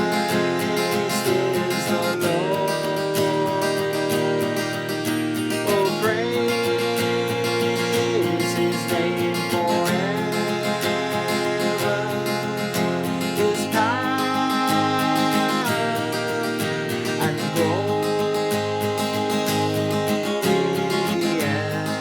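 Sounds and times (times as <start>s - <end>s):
acoustic guitar strummed: 0.0s - 22.0s
person singing long sliding notes: 0.0s - 22.0s.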